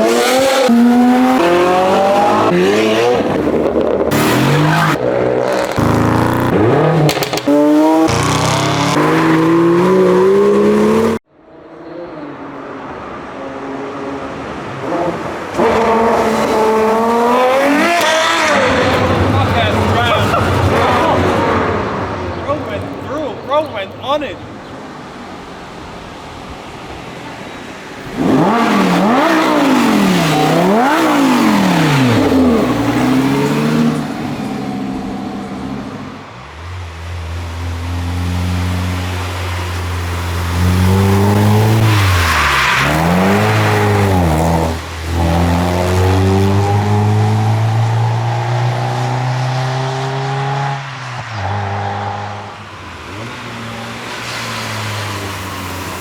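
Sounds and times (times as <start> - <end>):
car engine revving: 0.0 - 11.2, 14.1 - 23.0, 28.0 - 56.0.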